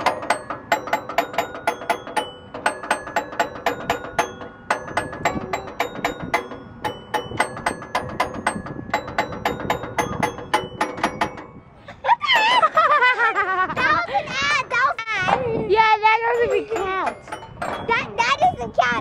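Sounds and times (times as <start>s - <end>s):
metal bars ringing tune: 0.0s - 19.0s.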